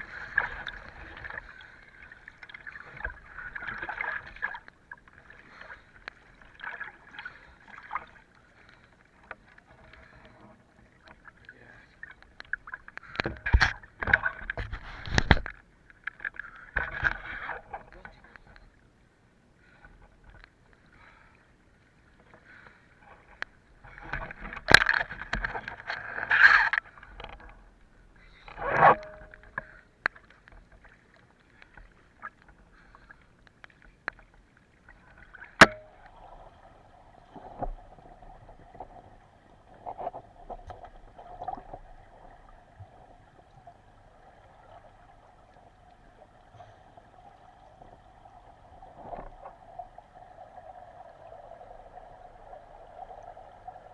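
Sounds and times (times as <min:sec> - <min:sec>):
faint steady hum: 0:00.0 - 0:53.9
water sloshing and gurgling: 0:00.0 - 0:53.9.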